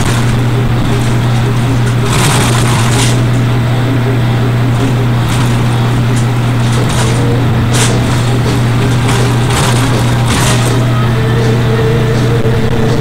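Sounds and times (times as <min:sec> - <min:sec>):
sewing machine motor humming: 0:00.0 - 0:13.0.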